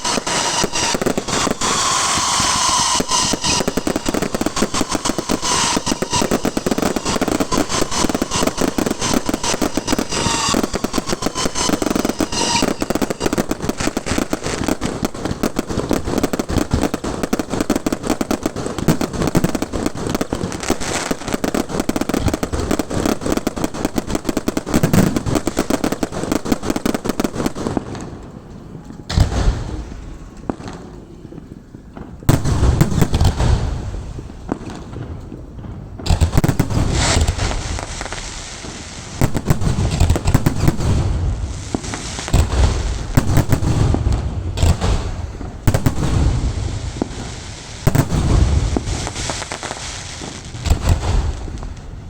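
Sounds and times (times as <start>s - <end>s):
firework shells booming: 0.0s - 52.0s
fireworks crackling and popping: 0.0s - 52.0s.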